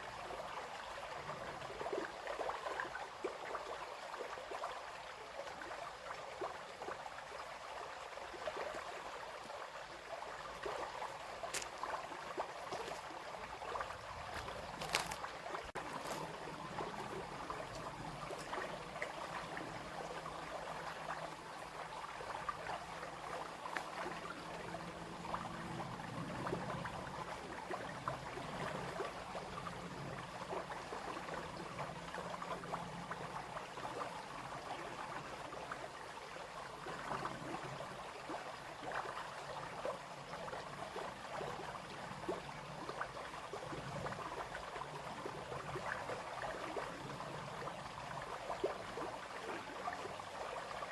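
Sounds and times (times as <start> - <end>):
brook babbling over stones: 0.0 - 50.9.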